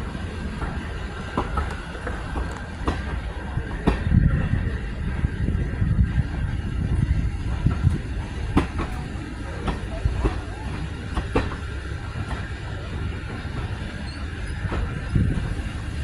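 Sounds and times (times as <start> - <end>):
train rumbling along track: 0.0 - 16.0
wheels clicking on rails: 0.0 - 16.0.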